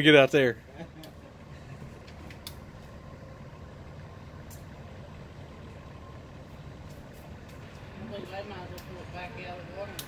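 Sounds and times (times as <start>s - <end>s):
distant engine rumble: 0.0s - 10.0s.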